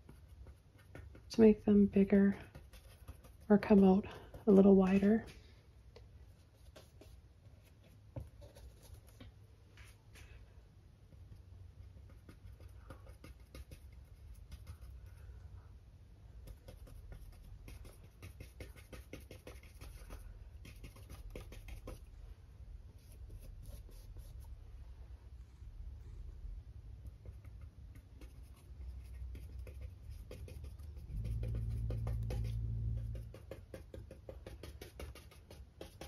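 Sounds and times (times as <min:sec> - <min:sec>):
paintbrush scratching and tapping: 0:00.0 - 0:05.4, 0:06.0 - 0:10.0, 0:11.1 - 0:15.2, 0:16.4 - 0:22.1, 0:23.0 - 0:24.6, 0:27.0 - 0:36.0
low steady hum: 0:00.0 - 0:36.0.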